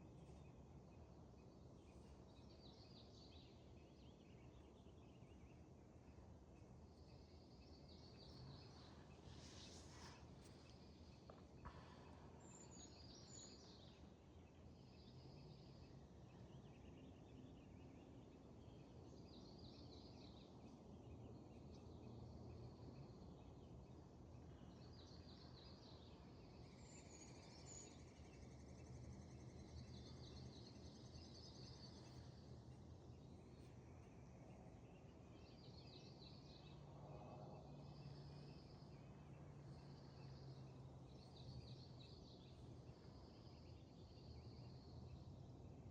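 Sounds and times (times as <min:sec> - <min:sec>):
low background hum: 0:00.0 - 0:45.9.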